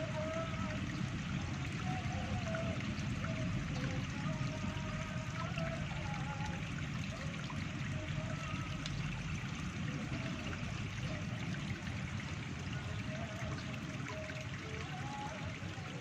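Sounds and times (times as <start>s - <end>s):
water flowing: 0.0s - 16.0s.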